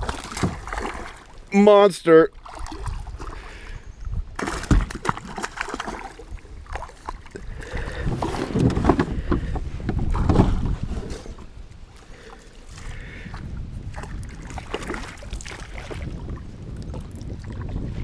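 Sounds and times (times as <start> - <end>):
water splashing: 0.0 - 3.6, 4.4 - 8.6, 10.1 - 18.0.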